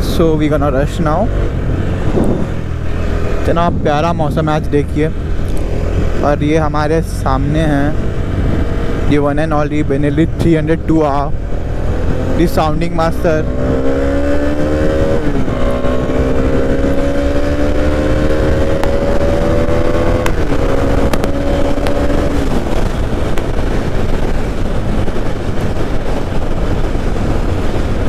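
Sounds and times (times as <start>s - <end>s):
motorcycle engine accelerating: 0.0s - 28.0s
wind and road noise: 0.0s - 28.0s.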